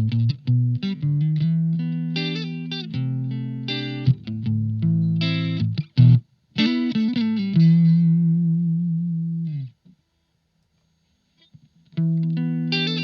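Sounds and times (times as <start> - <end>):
electric guitar with effect: 0.0 - 9.8, 11.9 - 13.0.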